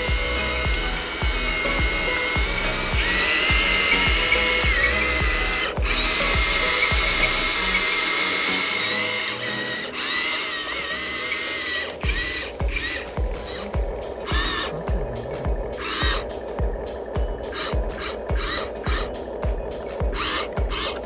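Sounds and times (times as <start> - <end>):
background music with steady beat: 0.0 - 21.0
electric motors whining: 0.0 - 21.0.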